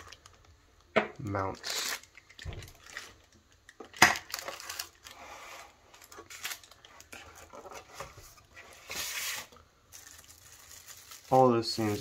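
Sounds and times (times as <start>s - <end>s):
cardboard and plastic rustling: 1.2s - 12.0s.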